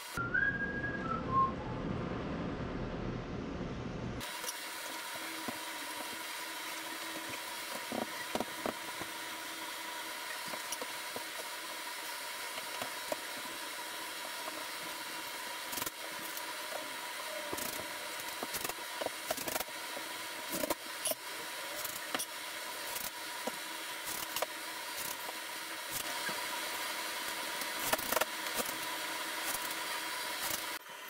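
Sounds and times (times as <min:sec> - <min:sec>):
steady hiss and hum: 0:00.0 - 0:31.0.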